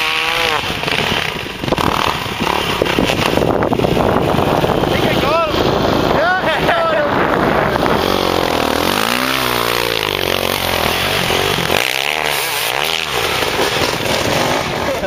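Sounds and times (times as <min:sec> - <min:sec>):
dirt bike engine revving: 0:00.0 - 0:15.0
wheel spinning in loose dirt: 0:00.0 - 0:15.0.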